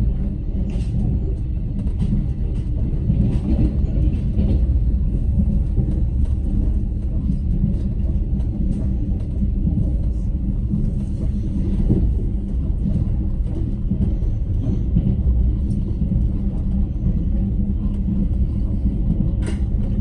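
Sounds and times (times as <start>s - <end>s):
train rumbling: 0.0s - 20.0s
wheels clattering on rails: 0.1s - 20.0s.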